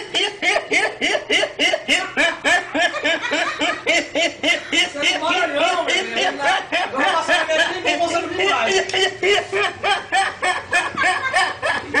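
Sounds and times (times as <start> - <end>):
young man laughing hard: 0.0 - 12.0.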